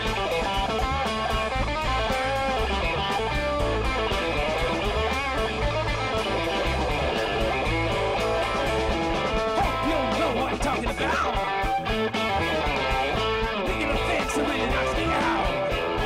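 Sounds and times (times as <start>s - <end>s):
bass guitar: 0.0s - 16.0s
drums keeping a steady beat: 0.0s - 16.0s
electric guitars: 0.0s - 16.0s.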